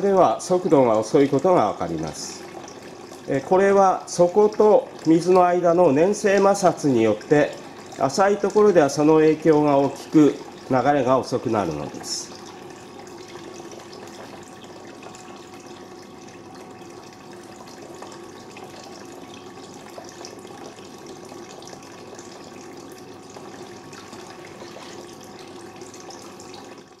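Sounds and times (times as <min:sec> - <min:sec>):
water running through flume: 0:00.0 - 0:27.0.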